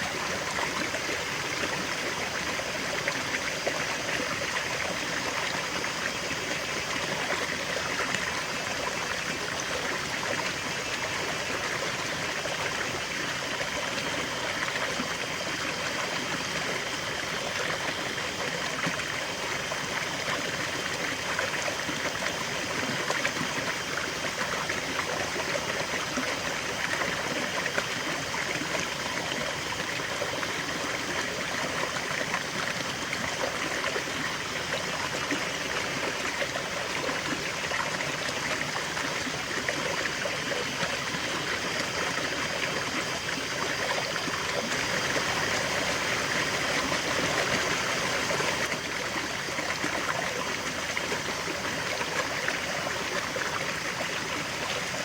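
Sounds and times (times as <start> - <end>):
river water babbling over stones: 0.0 - 55.0.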